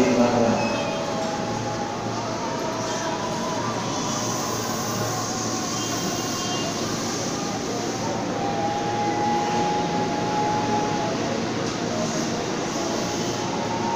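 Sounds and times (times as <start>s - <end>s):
electric train rolling past: 0.0s - 13.9s
train motor whine: 0.0s - 13.9s.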